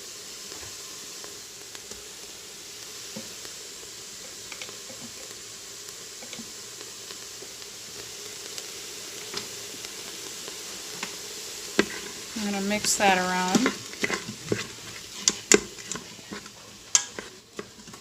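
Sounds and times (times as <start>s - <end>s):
vegetables sizzling in a pot: 0.0s - 18.0s.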